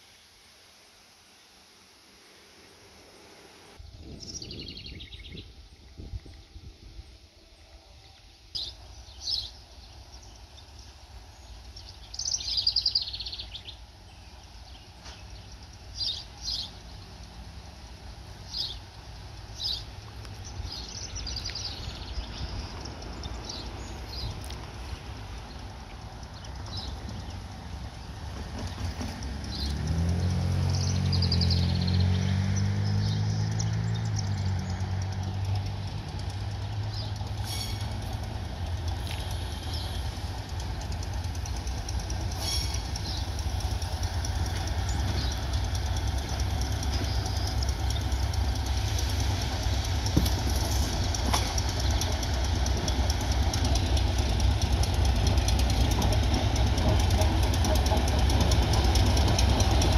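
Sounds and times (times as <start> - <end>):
diesel locomotive engine drone: 0.0 - 59.9
train clanks: 7.6 - 32.4, 33.0 - 59.9.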